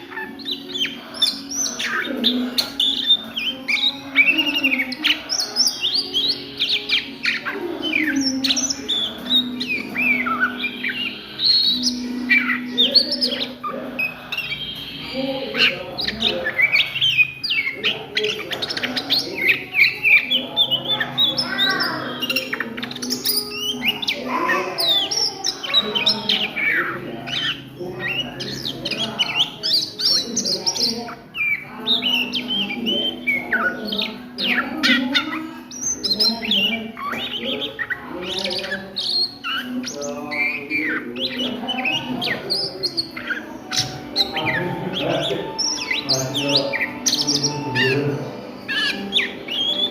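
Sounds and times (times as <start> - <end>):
magpie-robin singing: 0.0 - 49.9.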